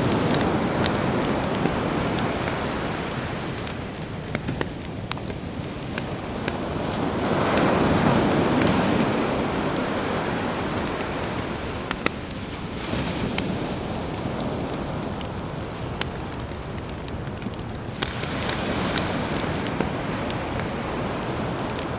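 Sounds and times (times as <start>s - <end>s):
campfire crackling and popping: 0.0s - 21.9s
sea waves washing ashore: 0.0s - 21.9s.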